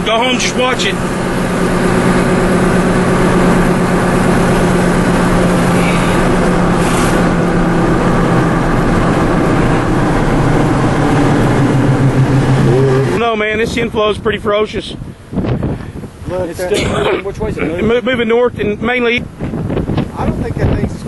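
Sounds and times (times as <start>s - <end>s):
truck engine running: 0.0s - 20.6s
strong wind: 0.0s - 21.0s.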